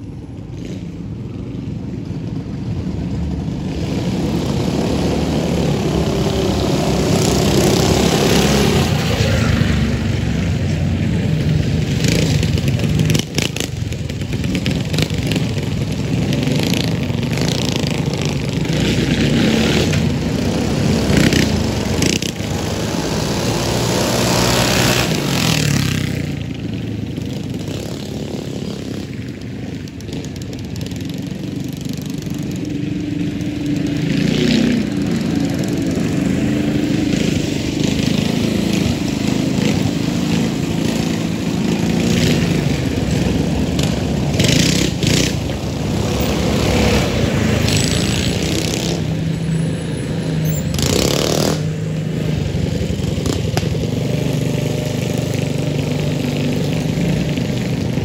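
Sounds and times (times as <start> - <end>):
small gas engines revving: 0.0 - 58.0
mini bike engine passing full throttle: 2.9 - 58.0.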